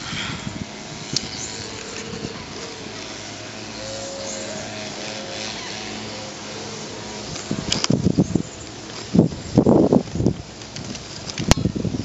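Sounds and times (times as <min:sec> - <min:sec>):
low motor hum: 0:00.0 - 0:12.0
outdoor background hiss: 0:00.0 - 0:12.0.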